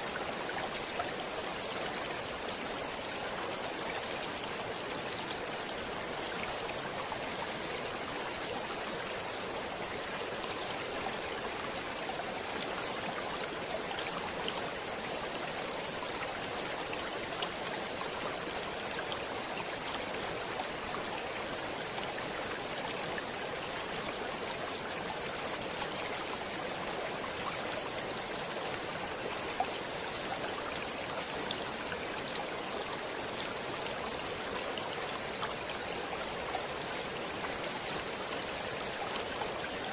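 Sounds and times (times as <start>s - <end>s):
water rushing in a stream: 0.0s - 39.9s.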